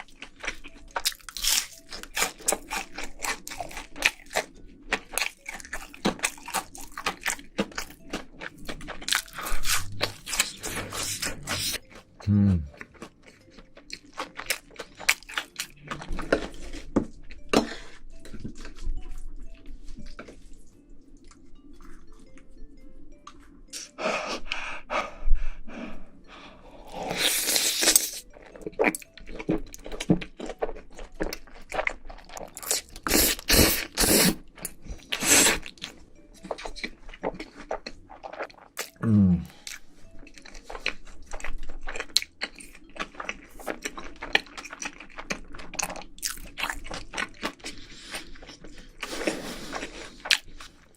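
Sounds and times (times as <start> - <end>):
chewing with mouth clicks: 0.0 - 22.5, 26.9 - 50.9.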